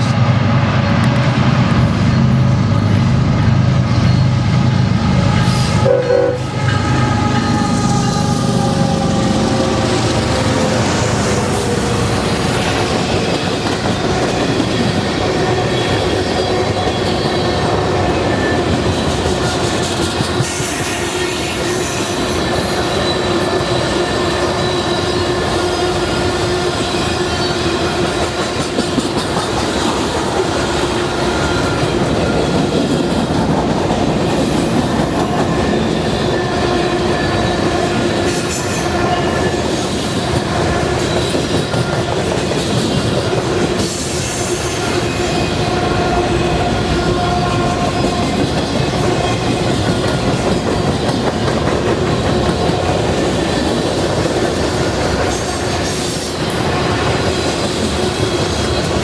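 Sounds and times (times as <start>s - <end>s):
freight train wheels clattering: 6.5s - 59.0s.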